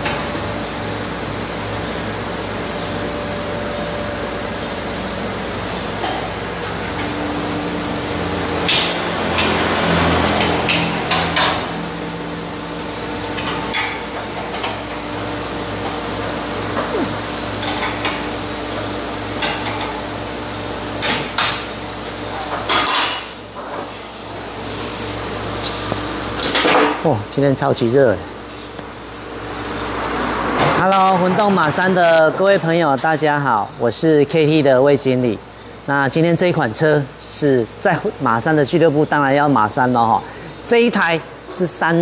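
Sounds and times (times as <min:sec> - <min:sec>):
steady background hum: 0:00.0 - 0:42.0
workshop background rushing noise: 0:00.0 - 0:42.0.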